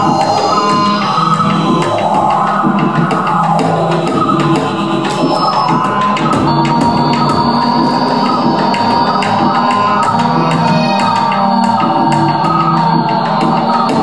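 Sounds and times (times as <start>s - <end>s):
held tones and drones: 0.0s - 14.0s
sharp percussive clicks and taps: 0.0s - 14.0s.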